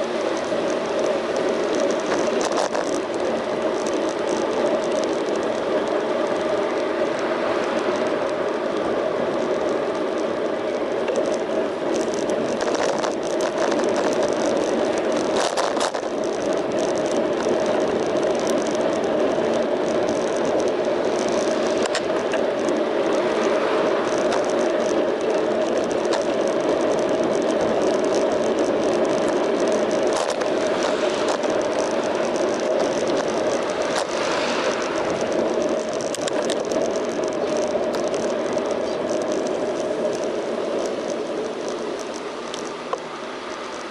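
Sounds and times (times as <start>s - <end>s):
bike rattles and clicks: 0.0s - 43.9s
wind and tyre noise: 0.0s - 43.9s.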